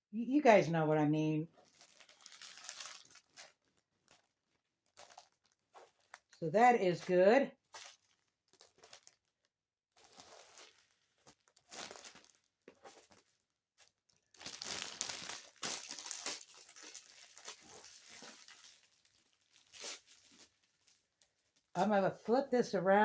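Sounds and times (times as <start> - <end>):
plastic packaging crinkling: 1.5 - 6.4, 7.0 - 21.8.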